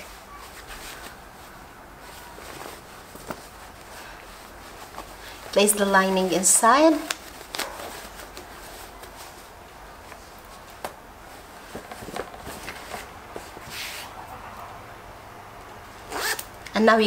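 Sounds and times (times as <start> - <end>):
fabric rustling: 0.0 - 14.2.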